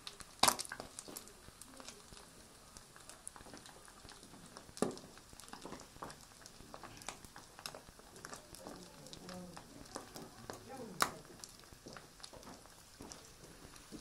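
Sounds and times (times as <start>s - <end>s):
fat crackling in a hot pan: 0.0s - 14.0s.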